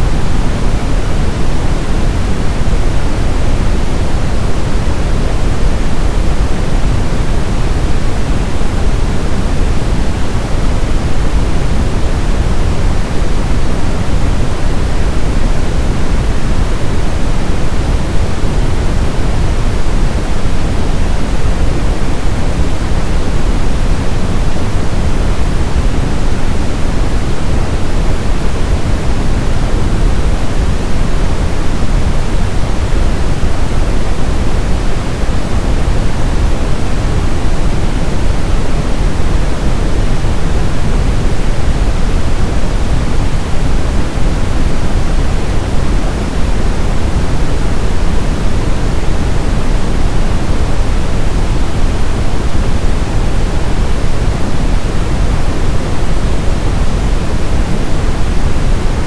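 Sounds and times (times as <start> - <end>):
brown noise hiss-rumble: 0.0 - 59.0.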